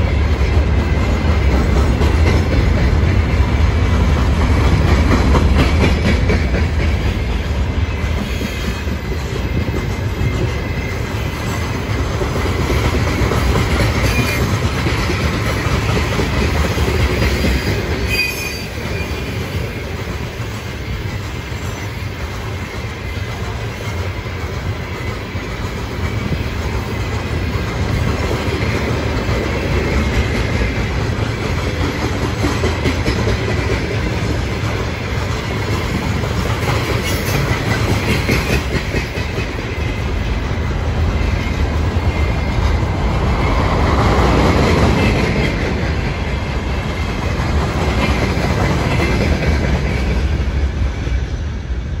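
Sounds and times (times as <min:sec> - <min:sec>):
steel wheels clattering on rails: 0:00.0 - 0:50.8
freight train rumbling past: 0:00.0 - 0:52.0.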